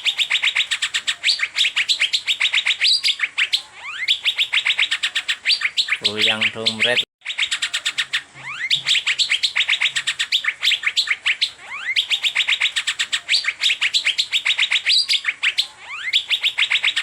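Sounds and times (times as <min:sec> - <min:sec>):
bird singing quick sharp notes: 0:00.0 - 0:17.0.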